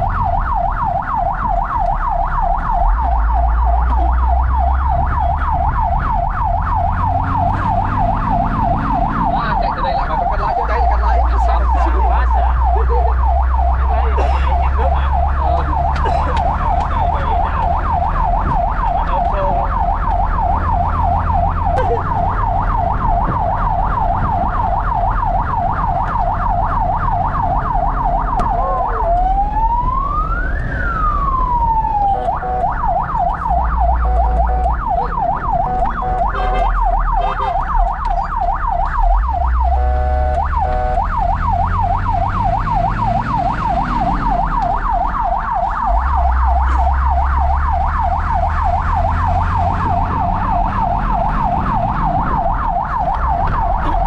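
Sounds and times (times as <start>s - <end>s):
siren rising and falling wail: 0.0s - 54.0s
siren steady tones: 0.0s - 54.0s
siren yelp: 0.0s - 54.0s
truck engine droning: 0.0s - 54.0s.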